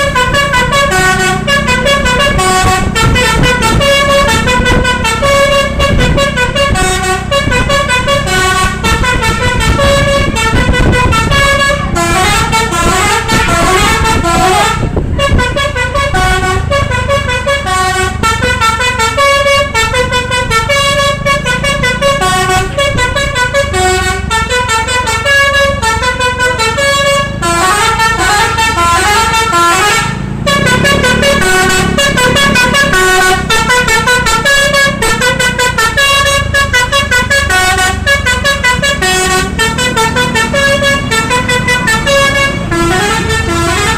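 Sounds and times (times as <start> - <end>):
engine and road rumble: 0.0 - 43.9
musical air horn tune: 0.0 - 43.9.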